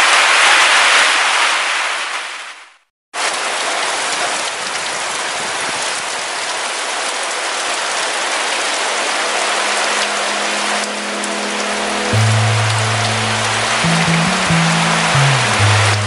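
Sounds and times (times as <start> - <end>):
heavy rain falling: 0.0 - 2.6, 3.2 - 16.0.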